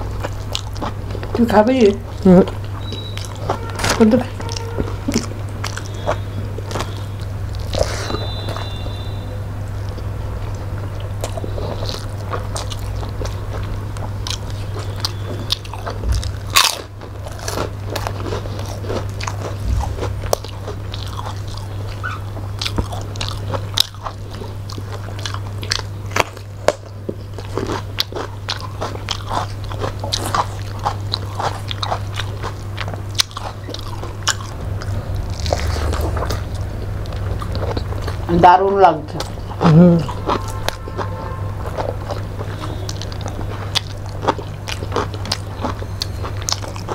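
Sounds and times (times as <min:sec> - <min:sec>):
people chewing with wet smacks: 0:00.0 - 0:46.9
steady low hum: 0:00.0 - 0:46.9.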